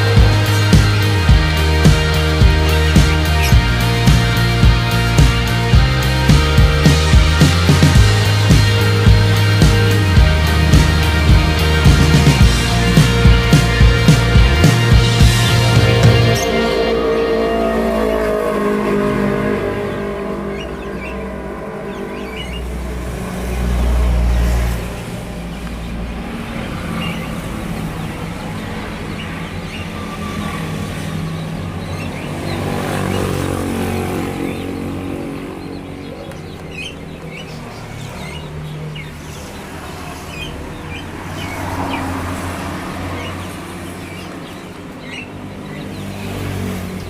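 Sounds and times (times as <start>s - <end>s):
small birds chirping: 0.0s - 47.0s
vehicle engines passing: 0.0s - 47.0s.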